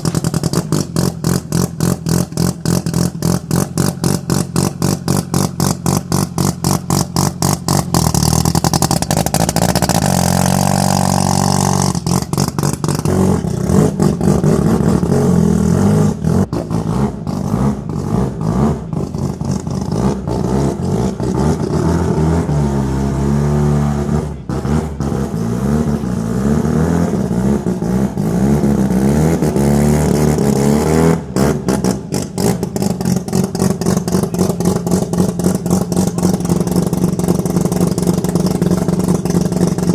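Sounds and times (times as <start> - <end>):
engine bouncing off rev limiter: 0.0 - 39.9
rotary engine revving hard: 0.5 - 39.9.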